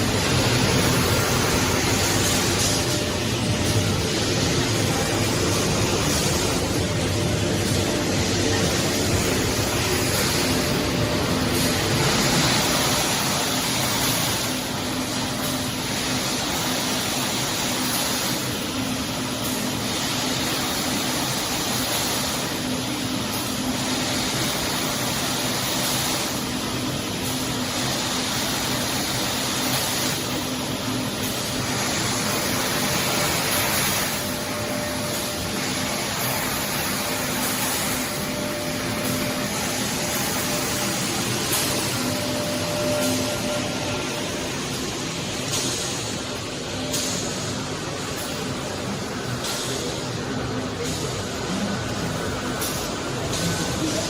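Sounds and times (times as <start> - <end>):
low machine hum: 0.0 - 54.0
rushing air from blowers: 0.0 - 54.0.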